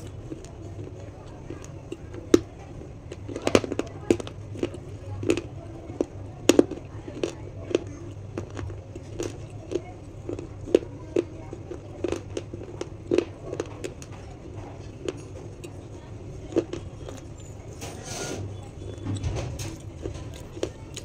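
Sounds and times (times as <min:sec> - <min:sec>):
chewing crunchy snack: 0:00.0 - 0:21.0
steady low hum: 0:00.0 - 0:21.0.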